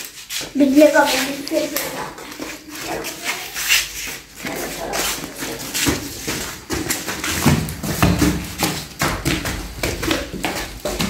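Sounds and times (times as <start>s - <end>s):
footsteps hurrying down stairs: 0.0s - 11.0s.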